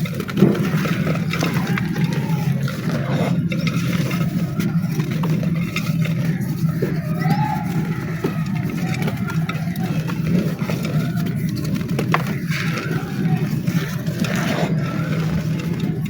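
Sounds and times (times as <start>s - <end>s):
dry clay crunching: 0.0s - 16.0s.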